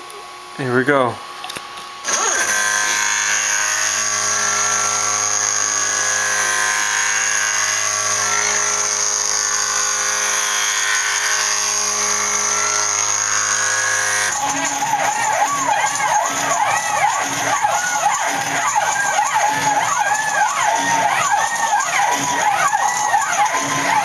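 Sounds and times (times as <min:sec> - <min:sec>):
machine high whine: 0:00.0 - 0:24.0
machine low hum: 0:00.0 - 0:24.0.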